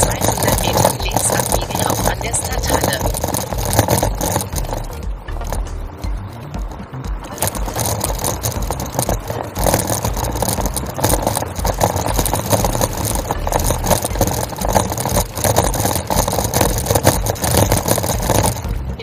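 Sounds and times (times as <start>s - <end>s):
bicycle rattling over cobblestones: 0.0s - 19.0s.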